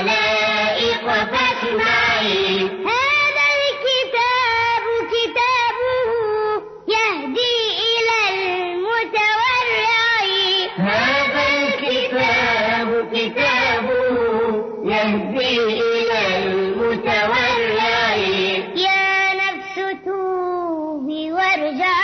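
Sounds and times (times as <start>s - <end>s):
high voice singing devotional song: 0.0s - 22.0s.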